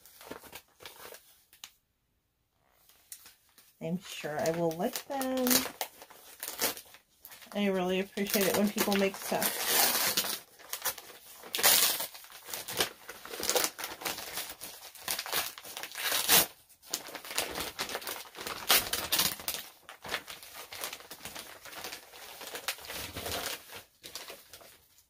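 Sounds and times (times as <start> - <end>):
gift wrapping crinkling: 0.0 - 1.8, 2.7 - 25.0.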